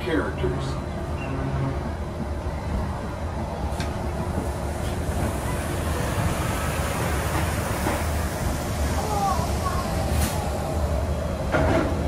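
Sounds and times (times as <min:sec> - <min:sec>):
monorail rumble and hiss: 0:00.0 - 0:12.0.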